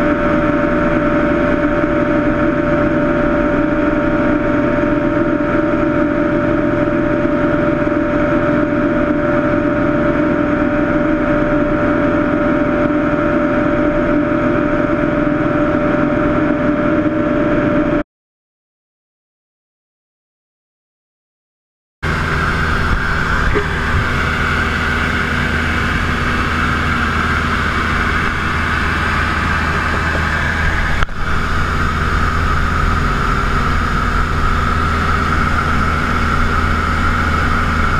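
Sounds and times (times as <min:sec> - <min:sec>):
light aircraft engine droning: 0:00.0 - 0:18.0, 0:22.0 - 0:37.9.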